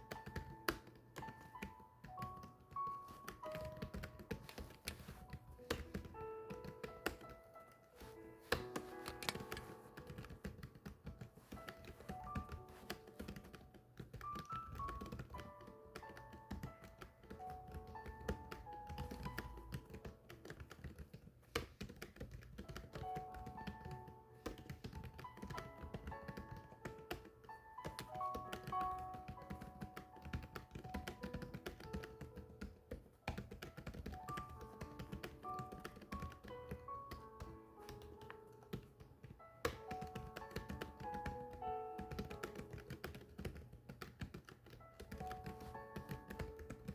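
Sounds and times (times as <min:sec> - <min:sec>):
gentle instrumental melody: 0:00.0 - 0:46.9
keyboard typing: 0:00.0 - 0:46.9.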